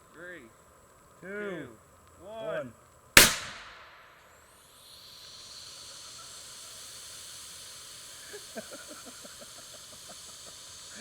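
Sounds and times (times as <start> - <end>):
steady even hiss: 0.0 - 11.0.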